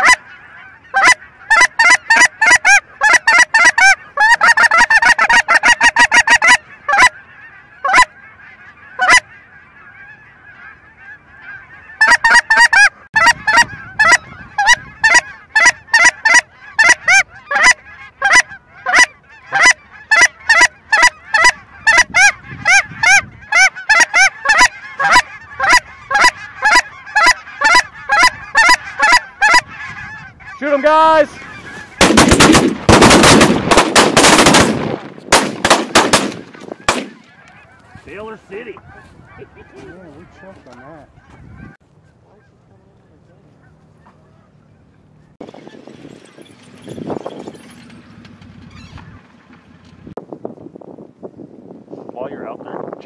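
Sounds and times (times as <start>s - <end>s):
flock chatter: 0.0s - 32.2s, 36.6s - 47.5s
geese honking: 0.0s - 47.2s, 48.7s - 50.2s.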